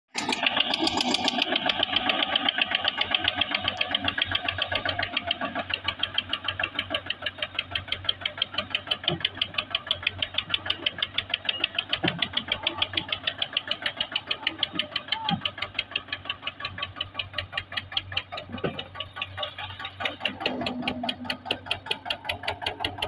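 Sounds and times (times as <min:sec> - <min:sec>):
tractor diesel engine labouring: 0:00.1 - 0:23.0.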